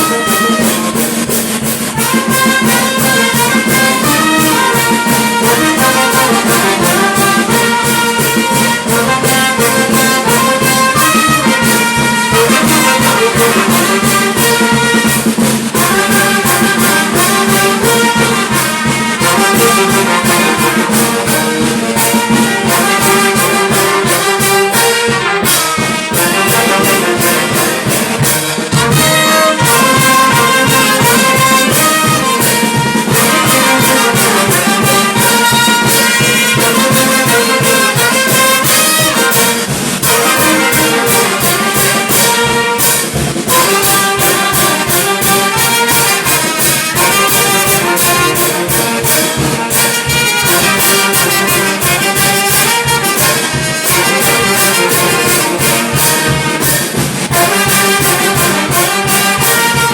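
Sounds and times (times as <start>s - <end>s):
brass band playing: 0.0s - 59.9s
steady percussion beat: 0.0s - 59.9s.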